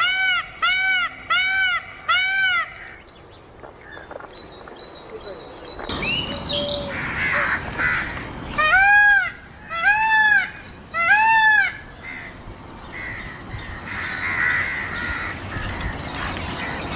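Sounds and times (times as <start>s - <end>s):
peafowl honking calls: 0.0s - 3.0s, 6.3s - 16.9s.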